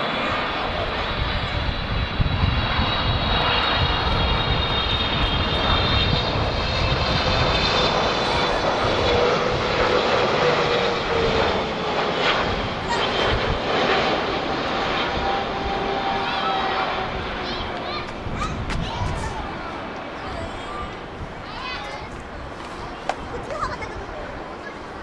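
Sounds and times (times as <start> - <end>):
jet engines whining: 0.0 - 25.0
wind rumble on microphone: 0.6 - 11.6, 12.2 - 16.2, 16.9 - 19.7, 20.3 - 24.4.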